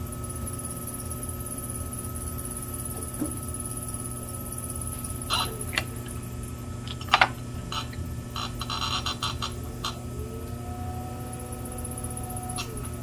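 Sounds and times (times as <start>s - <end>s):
potter's wheel motor humming: 0.0s - 13.0s.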